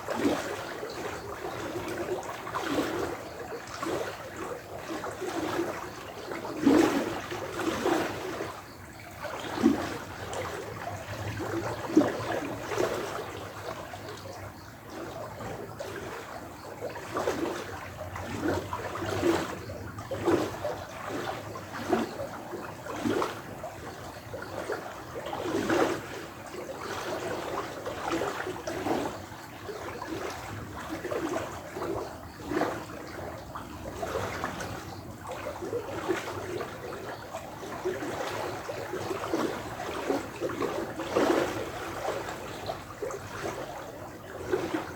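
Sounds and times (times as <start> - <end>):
water plops and splashes: 0.0 - 44.9
water trickling and gurgling: 0.0 - 44.9.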